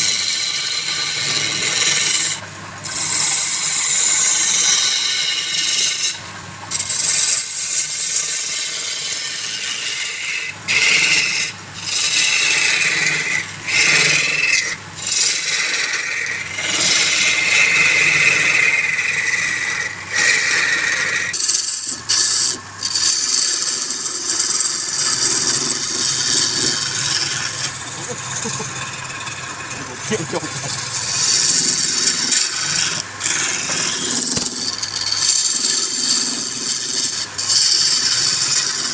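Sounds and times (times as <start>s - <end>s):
tool scraping wood on lathe: 0.0s - 38.9s.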